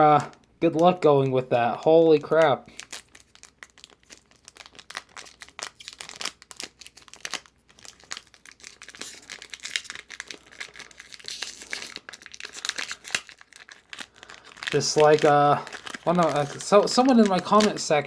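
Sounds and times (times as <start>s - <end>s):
foil wrapper crinkling and tearing: 2.0s - 18.0s.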